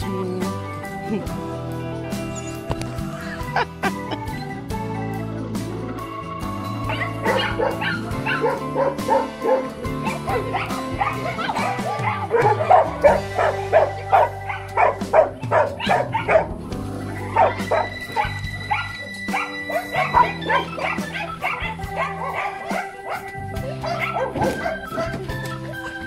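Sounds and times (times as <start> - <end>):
background music: 0.0 - 26.0
dogs barking and yipping: 2.0 - 4.8, 6.6 - 26.0.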